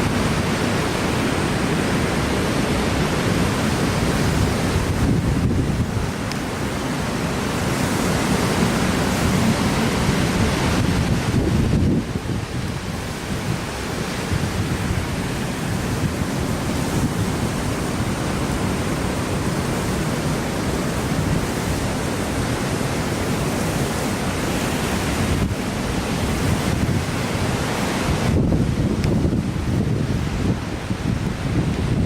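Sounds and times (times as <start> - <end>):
heavy surf rushing: 0.0 - 32.0
strong wind hitting microphone: 0.0 - 32.0.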